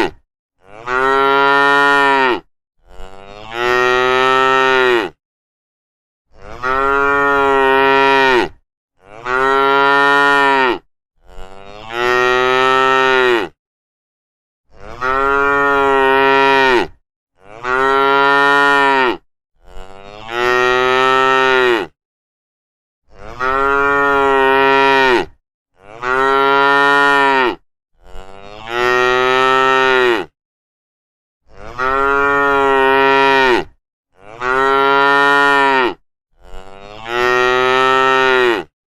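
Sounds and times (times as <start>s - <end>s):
cattle mooing: 0.6s - 5.2s, 6.4s - 13.6s, 14.8s - 21.9s, 23.1s - 30.3s, 31.5s - 38.7s.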